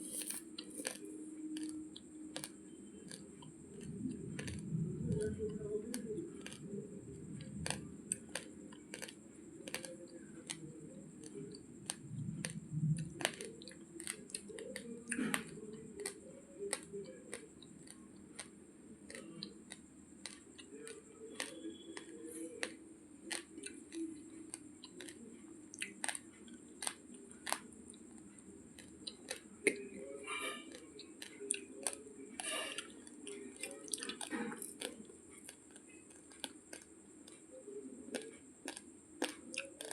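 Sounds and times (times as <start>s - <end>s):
rice grains crunching in mouth: 0.0s - 6.8s, 7.4s - 39.9s
soft mouth sounds: 0.0s - 39.9s.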